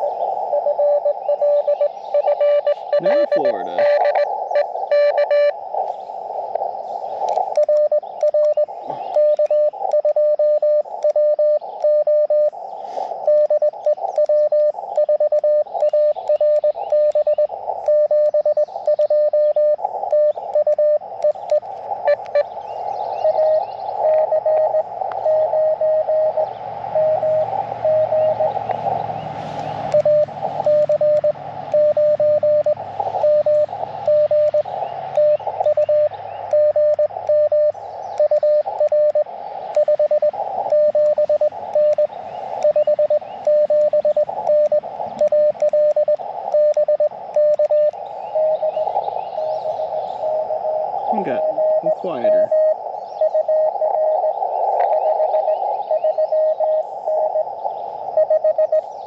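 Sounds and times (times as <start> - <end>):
morse code tone: 0.0 - 5.6, 7.5 - 12.5, 13.2 - 22.5, 23.2 - 28.6, 29.9 - 57.5, 58.2 - 58.8
weaker higher morse signal: 0.0 - 59.0.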